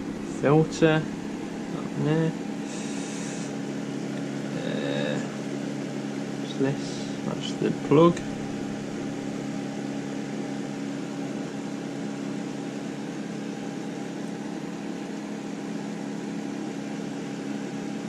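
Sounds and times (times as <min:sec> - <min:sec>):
machine hum with hiss: 0:00.0 - 0:18.0.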